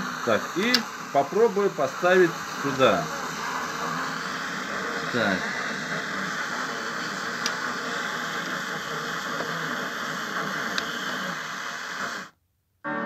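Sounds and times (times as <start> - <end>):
speaker static hiss: 0.0 - 13.0.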